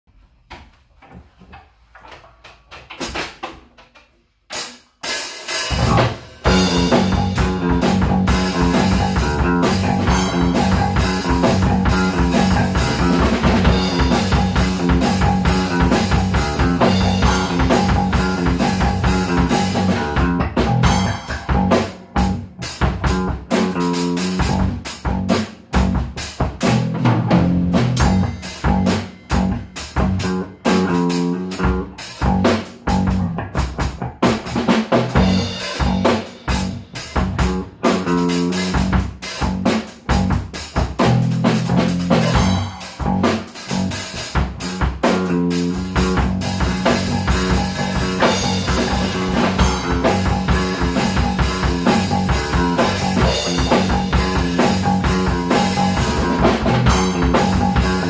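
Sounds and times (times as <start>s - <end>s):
drum kit playing: 2.9s - 58.0s
electric bass line: 5.6s - 58.0s.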